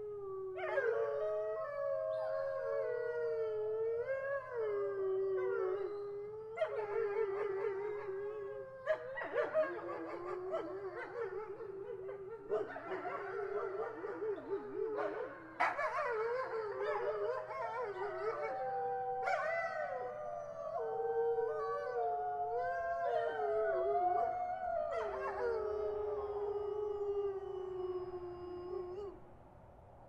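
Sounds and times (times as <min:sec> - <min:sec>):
chorus of howls: 0:00.0 - 0:29.3.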